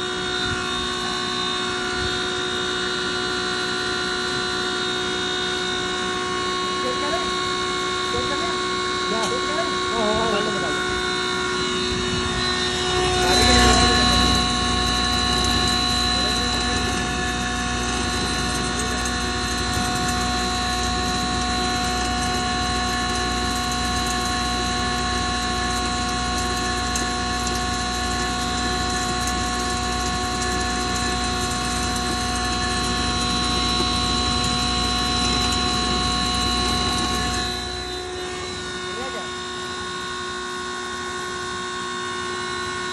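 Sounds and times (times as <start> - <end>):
grinding machine humming and whining: 0.0 - 42.9.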